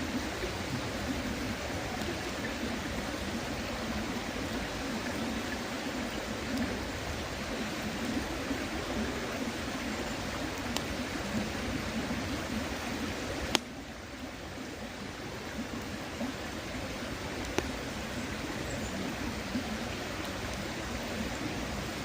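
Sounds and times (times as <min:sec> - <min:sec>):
campfire popping: 0:00.0 - 0:13.9, 0:16.9 - 0:21.9
stream flowing: 0:00.0 - 0:22.0.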